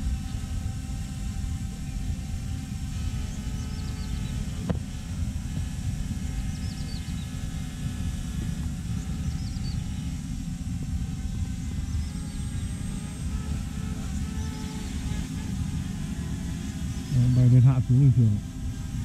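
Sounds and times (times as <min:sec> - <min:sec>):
drone humming overhead: 0:00.0 - 0:19.0
steady low rumble: 0:00.0 - 0:19.0.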